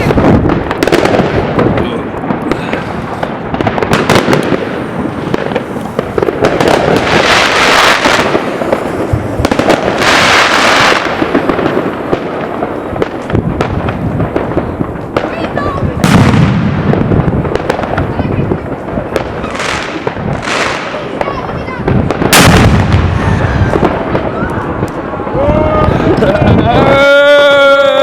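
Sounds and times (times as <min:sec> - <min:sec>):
fireworks bangs: 0:00.0 - 0:28.0
fireworks crackling hiss: 0:00.0 - 0:28.0.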